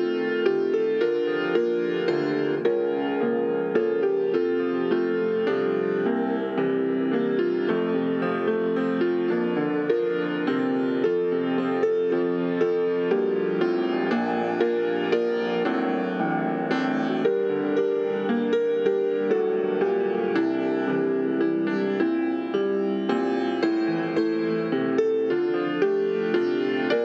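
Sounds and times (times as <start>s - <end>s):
instrumental piano music: 0.0s - 27.0s.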